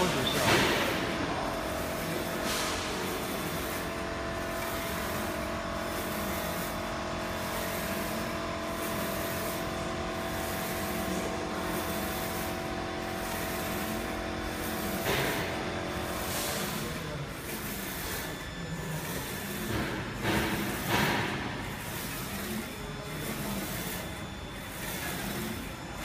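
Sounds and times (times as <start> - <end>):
printer whirring: 0.0 - 26.0
steady machine tones: 0.0 - 26.0.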